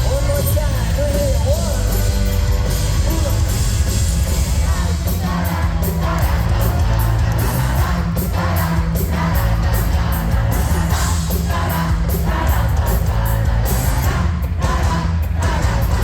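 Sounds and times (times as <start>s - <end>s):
crowd yelling along: 0.0s - 16.0s
live pop-rock band: 0.0s - 16.0s.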